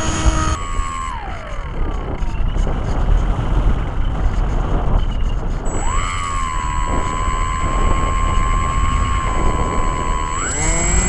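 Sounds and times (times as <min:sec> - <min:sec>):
electric motor whine: 0:00.0 - 0:04.6, 0:05.5 - 0:11.0
wind rushing over microphone: 0:00.0 - 0:11.0.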